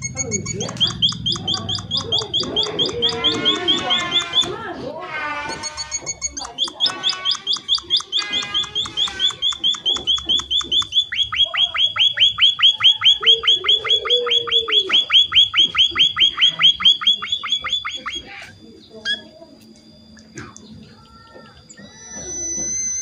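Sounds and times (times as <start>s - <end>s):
finches chirping: 0.0s - 4.7s, 5.4s - 19.3s.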